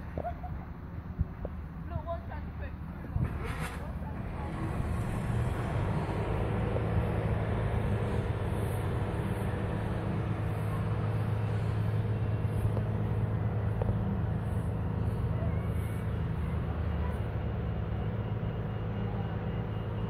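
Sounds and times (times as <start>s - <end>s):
large engines droning: 0.0s - 20.0s.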